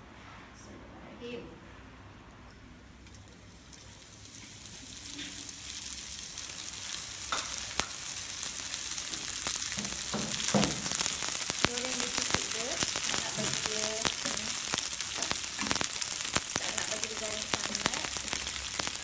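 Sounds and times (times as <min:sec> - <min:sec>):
fish sizzling in hot oil: 0:03.1 - 0:19.0
sharp crackling pops: 0:03.1 - 0:19.0.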